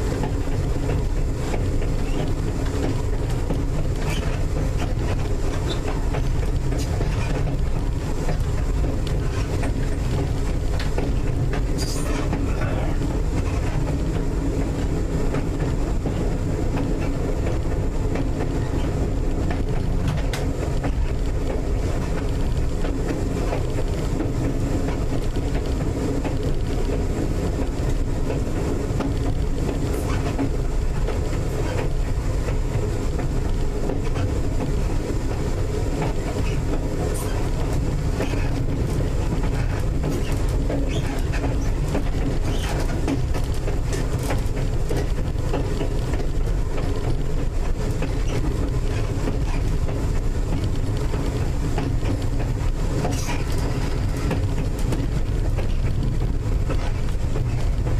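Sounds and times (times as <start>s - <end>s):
train wheels rumbling on rail: 0.0s - 57.9s
wheels clicking over rail joints: 0.0s - 57.9s.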